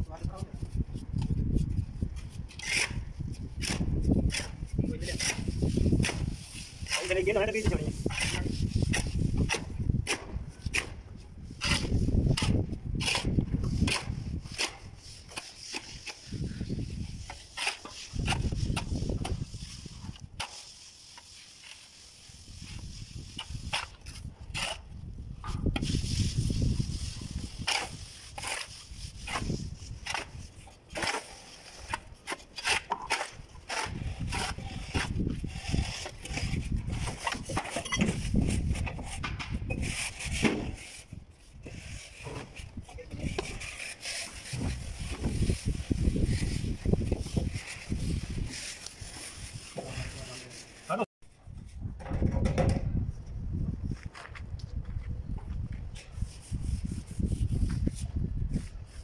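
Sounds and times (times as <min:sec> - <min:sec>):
shovel scraping concrete floor: 0:02.3 - 0:51.1.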